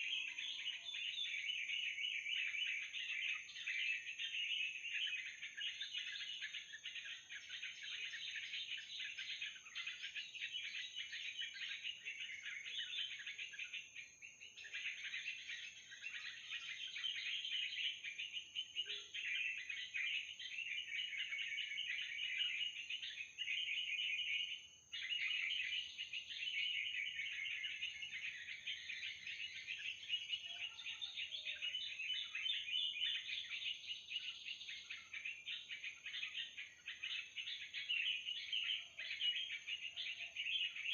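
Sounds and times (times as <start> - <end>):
chattering bird calls: 0.0 - 40.9.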